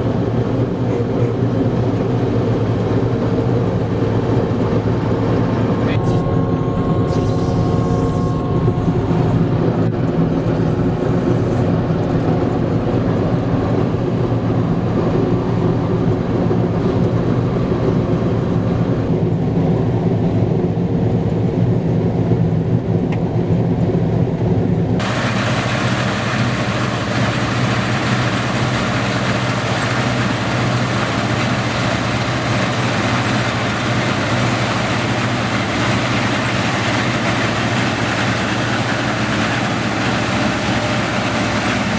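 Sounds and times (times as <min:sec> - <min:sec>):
combine harvester diesel drone: 0:00.0 - 0:41.9.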